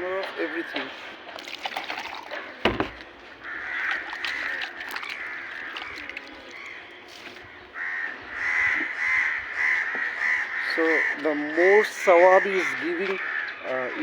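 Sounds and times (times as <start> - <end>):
birds calling: 2.1 - 14.0.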